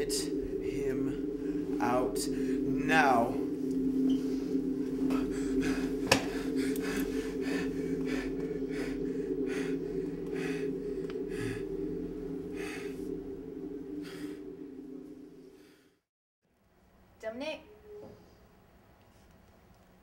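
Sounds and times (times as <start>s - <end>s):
steady low hum: 0.0s - 16.1s.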